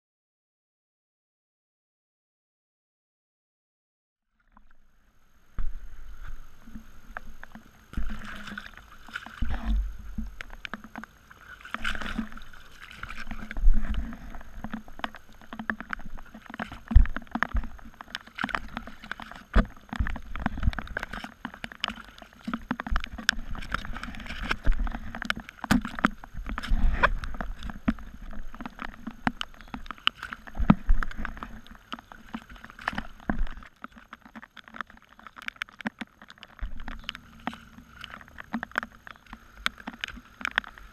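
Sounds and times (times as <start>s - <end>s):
water sloshing and gurgling: 4.4s - 40.9s.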